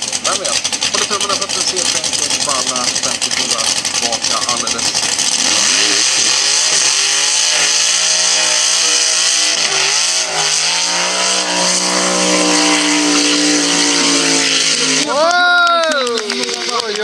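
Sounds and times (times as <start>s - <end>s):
car engine at high revs: 0.0s - 17.0s
tyres spinning: 0.0s - 17.0s.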